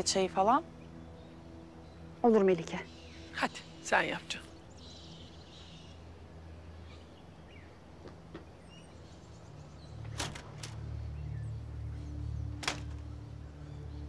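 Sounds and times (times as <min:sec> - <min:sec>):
low drone: 0:00.0 - 0:14.0
low steady hum: 0:00.0 - 0:14.0.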